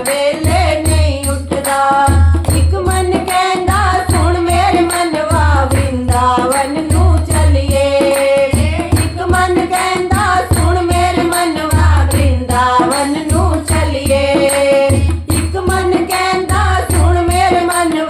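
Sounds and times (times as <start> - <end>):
devotional singing: 0.0 - 18.0.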